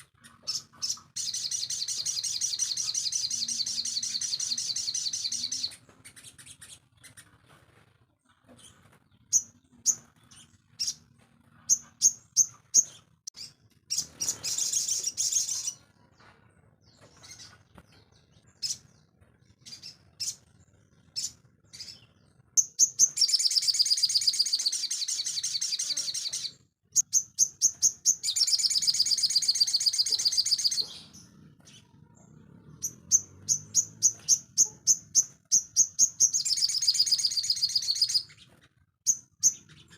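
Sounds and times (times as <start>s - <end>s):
rapid twittering birdsong: 0.0s - 7.4s, 8.4s - 39.9s
birds chirping: 0.0s - 7.6s, 8.2s - 39.9s.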